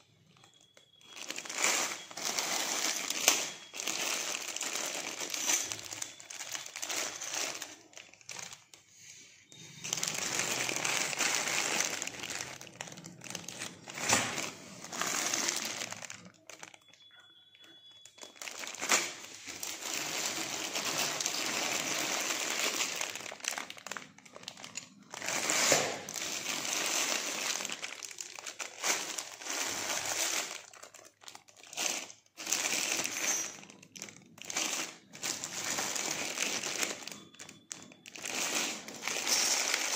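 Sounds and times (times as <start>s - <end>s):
plastic bags crinkling: 0.0s - 39.9s.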